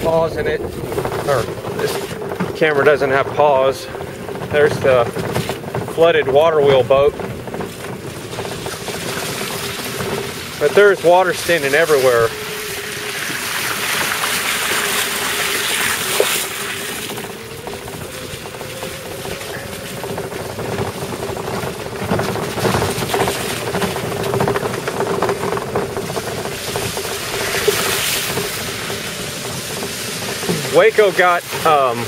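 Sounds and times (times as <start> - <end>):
knocks and rattles from bumps: 0.0 - 32.0
small vehicle motor whine: 0.0 - 32.0.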